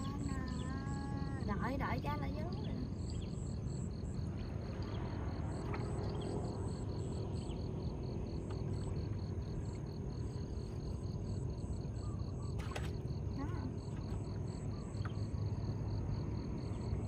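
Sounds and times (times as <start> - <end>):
insect chirping: 0.0 - 17.0
steady low rumble: 0.0 - 17.0.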